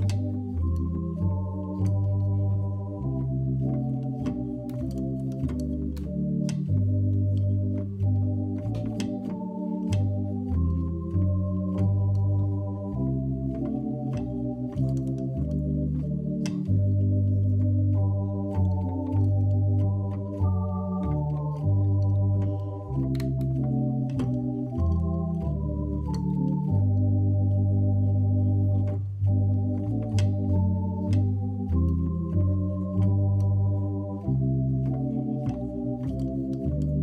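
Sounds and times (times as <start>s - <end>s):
organ playing slow chords: 0.0s - 37.0s.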